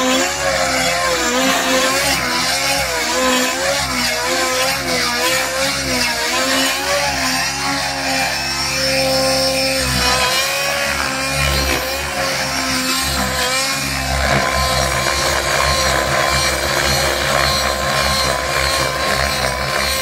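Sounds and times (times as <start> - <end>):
model helicopter engine and rotors: 0.0 - 20.0.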